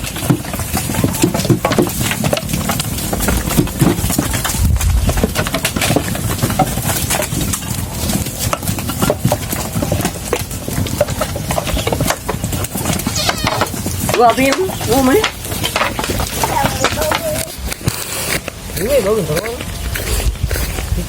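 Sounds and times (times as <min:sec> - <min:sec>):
goats chewing with crunching clicks: 0:00.0 - 0:21.0
leafy rustling: 0:00.0 - 0:21.0.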